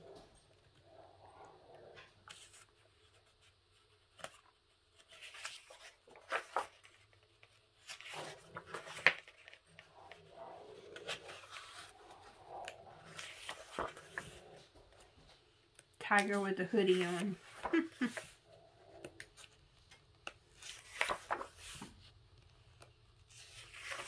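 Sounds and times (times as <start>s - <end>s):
book pages turning and rustling: 1.8s - 24.0s.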